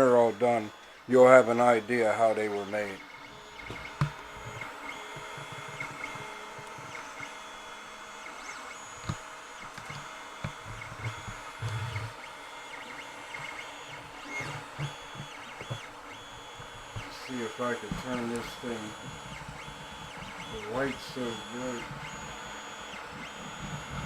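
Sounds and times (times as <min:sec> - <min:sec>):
steady hum: 0:00.0 - 0:24.0
stepper motors whining: 0:00.0 - 0:24.0.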